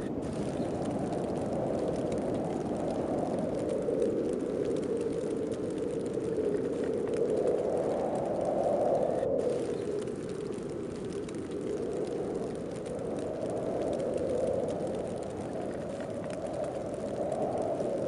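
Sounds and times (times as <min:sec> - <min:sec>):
snowstorm wind blowing: 0:00.0 - 0:18.0.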